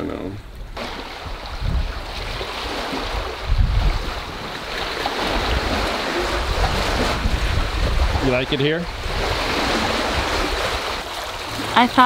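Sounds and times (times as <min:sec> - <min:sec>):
wind buffeting microphone: 0:00.3 - 0:12.0
water rushing past hull: 0:00.5 - 0:12.0.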